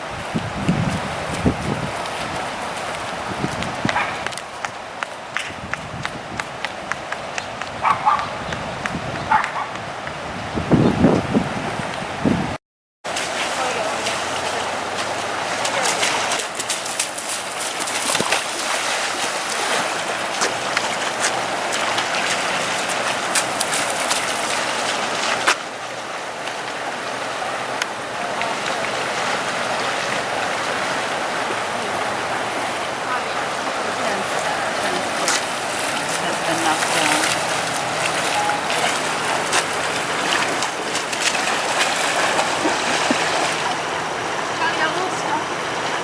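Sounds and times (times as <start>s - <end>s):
floodwater rushing and splashing: 0.0s - 46.0s.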